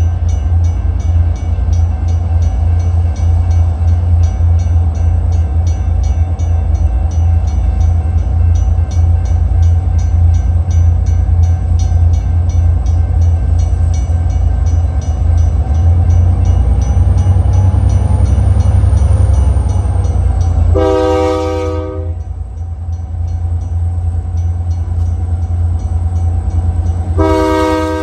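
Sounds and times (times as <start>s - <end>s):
diesel locomotive rumble: 0.0s - 28.0s
locomotive bell ringing: 0.0s - 28.0s.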